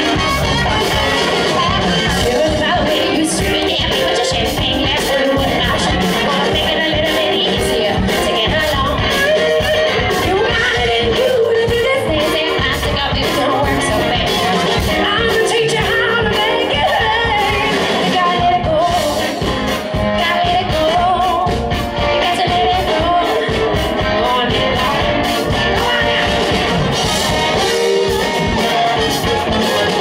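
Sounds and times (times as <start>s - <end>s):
rock and soul band playing: 0.0s - 30.0s
woman singing lead: 0.0s - 30.0s.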